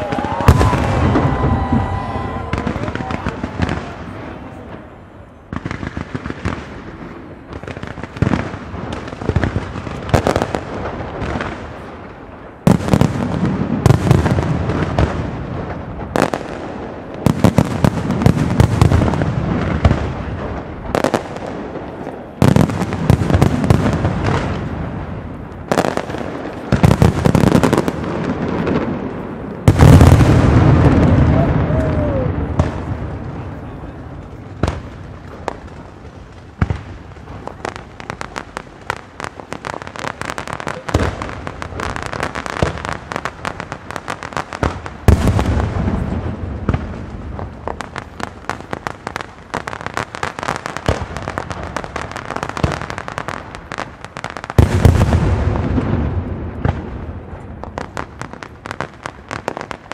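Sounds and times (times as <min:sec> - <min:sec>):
fireworks crackle: 0:00.0 - 0:59.9.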